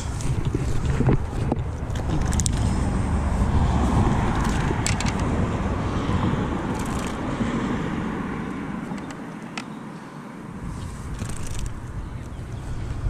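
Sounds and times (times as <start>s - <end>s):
wind on microphone: 0.0s - 9.3s, 10.5s - 13.0s
road traffic rumble: 0.0s - 13.0s.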